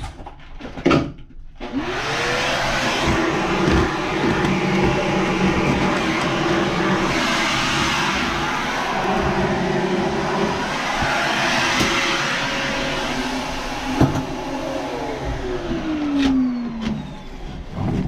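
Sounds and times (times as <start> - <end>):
vacuum cleaner running: 1.6 - 18.0.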